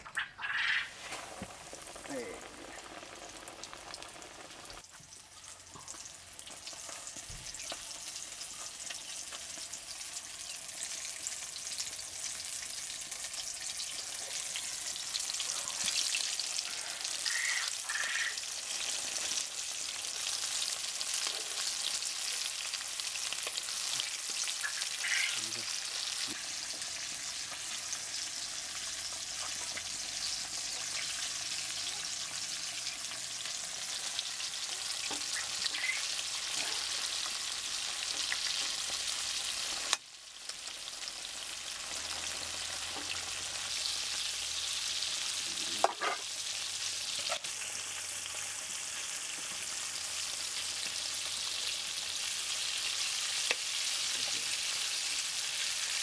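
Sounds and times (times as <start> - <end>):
oil sizzling: 0.0 - 56.0.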